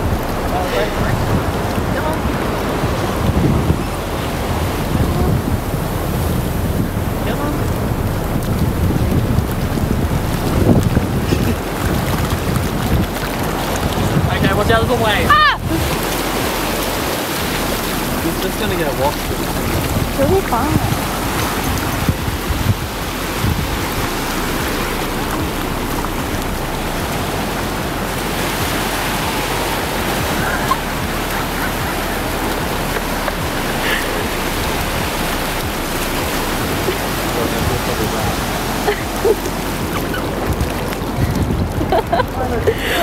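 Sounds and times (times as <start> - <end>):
ocean surf washing in: 0.0 - 43.0
wind buffeting microphone: 0.0 - 43.0.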